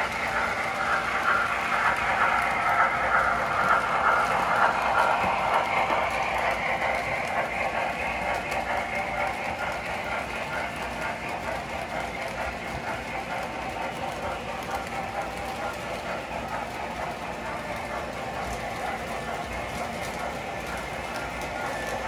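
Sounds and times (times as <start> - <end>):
model train wheels rattling on rails: 0.0 - 22.0.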